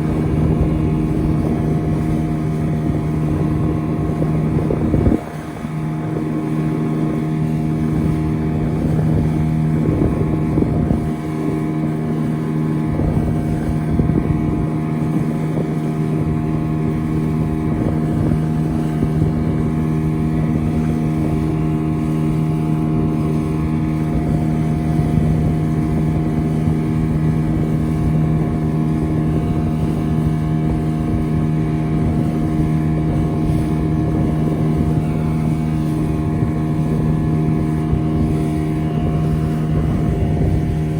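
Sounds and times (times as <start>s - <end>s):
motorboat engine running: 0.0s - 40.9s
wind buffeting microphone: 0.0s - 40.9s.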